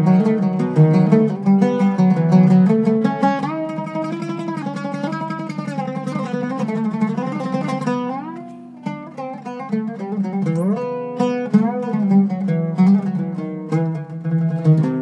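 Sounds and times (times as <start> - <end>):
oud playing solo: 0.0 - 15.0.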